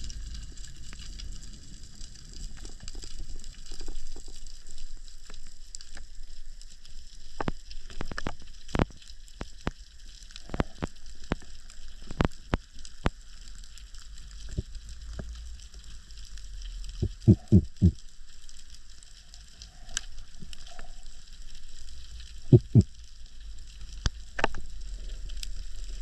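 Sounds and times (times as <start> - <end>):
snapping shrimp clicks and crackles: 0.0 - 26.0
steady underwater hiss: 0.0 - 26.0.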